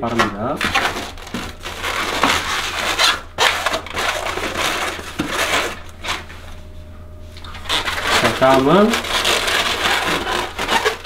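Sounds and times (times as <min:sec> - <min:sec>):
balloons rubbing and squeaking: 0:00.7 - 0:06.2, 0:07.5 - 0:11.0.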